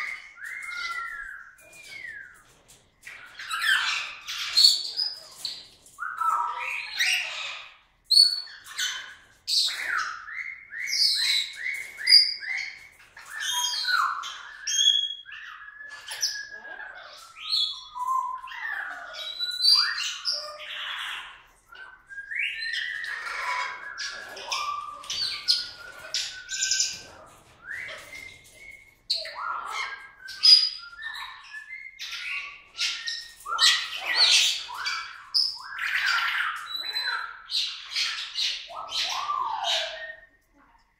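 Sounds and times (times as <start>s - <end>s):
cockatoo chirps and squawks: 0.0s - 40.9s.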